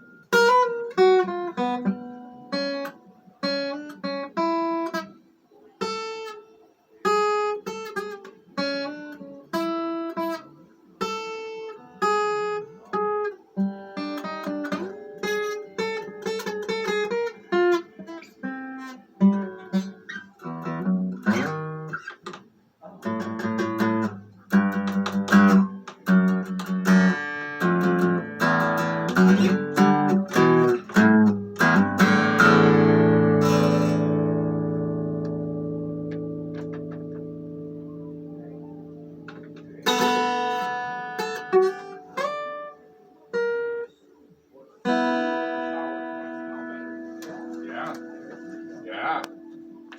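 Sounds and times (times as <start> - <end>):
solo guitar playing: 0.0 - 49.9.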